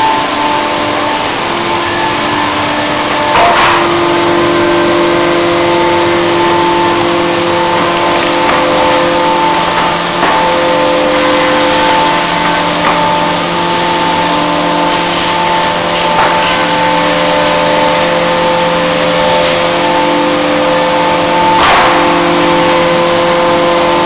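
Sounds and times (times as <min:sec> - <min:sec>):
milling machine motor whine: 0:00.0 - 0:24.0.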